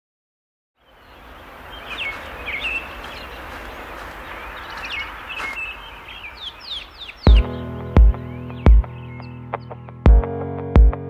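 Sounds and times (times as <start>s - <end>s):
outdoor background noise: 0.8s - 10.0s
small birds chirping: 0.8s - 10.1s.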